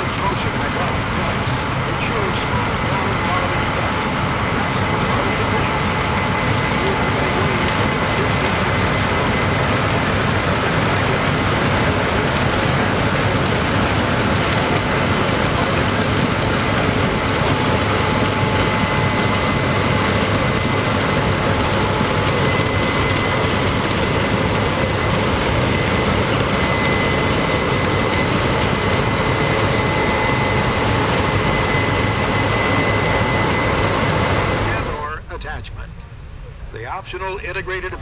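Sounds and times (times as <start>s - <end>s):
combine harvester running: 0.0s - 38.0s
faint high steady whine: 0.0s - 38.0s.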